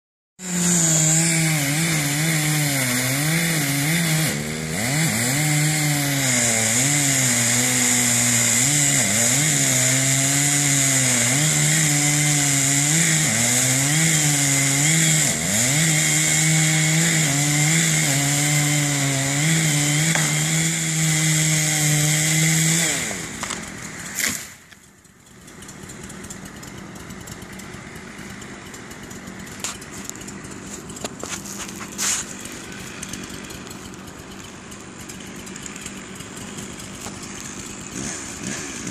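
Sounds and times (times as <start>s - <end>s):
chainsaw cutting: 0.4s - 38.9s.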